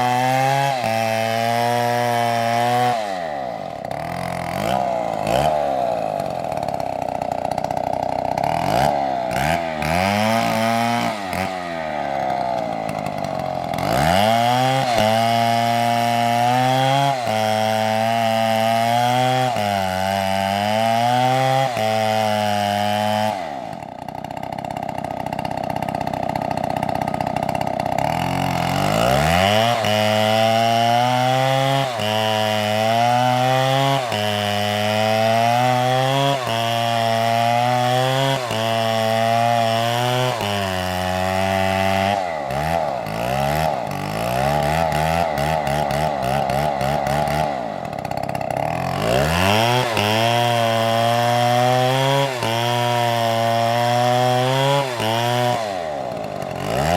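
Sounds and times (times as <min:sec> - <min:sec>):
chainsaw cutting log: 0:00.0 - 0:56.9.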